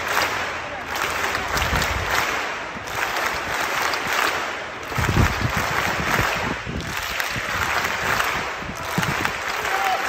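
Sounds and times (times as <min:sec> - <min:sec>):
stadium crowd din: 0:00.0 - 0:10.0.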